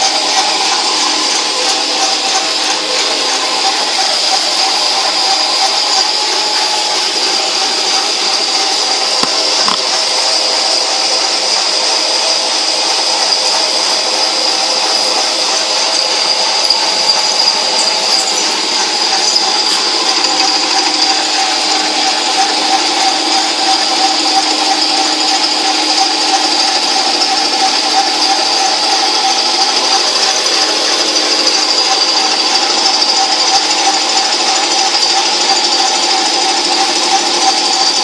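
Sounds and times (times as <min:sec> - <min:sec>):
metal lathe running: 0:00.0 - 0:38.0.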